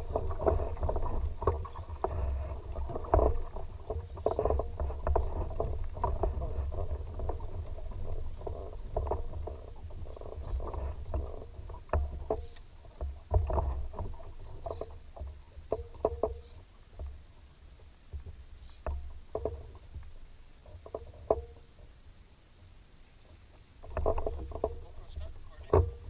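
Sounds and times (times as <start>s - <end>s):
paddle knocking against hull: 0.0s - 17.2s, 18.1s - 21.7s, 23.8s - 26.0s
paddle strokes in water: 0.0s - 22.2s, 23.2s - 26.0s.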